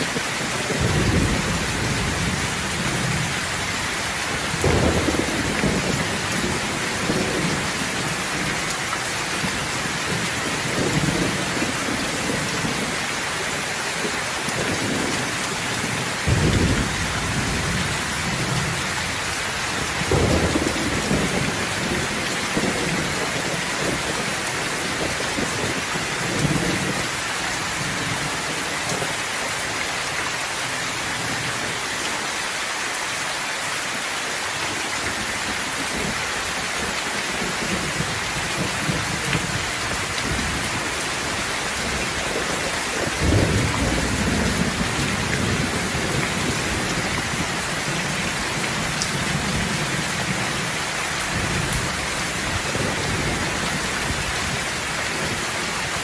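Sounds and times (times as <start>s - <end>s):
thunder rumbling: 0.0s - 13.0s, 14.1s - 27.2s, 36.8s - 56.0s
steady rain falling: 0.0s - 56.0s.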